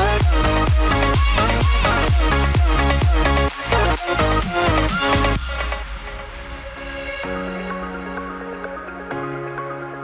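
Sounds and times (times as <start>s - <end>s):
electronic music with sustained chords: 0.0s - 10.0s.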